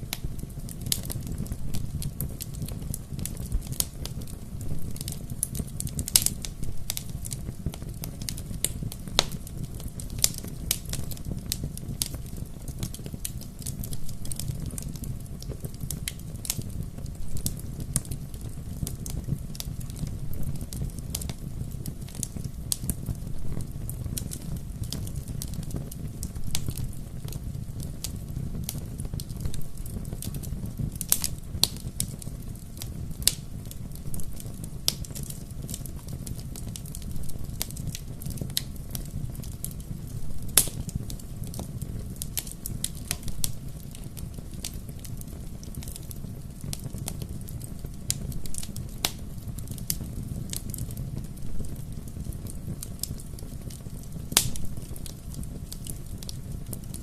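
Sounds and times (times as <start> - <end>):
bonfire crackling and popping: 0.0 - 57.0
low rumble of burning wood: 0.0 - 57.0.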